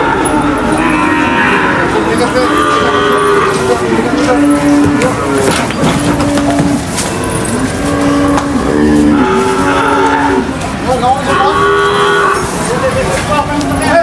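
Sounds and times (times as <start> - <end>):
cattle mooing: 0.0 - 12.9.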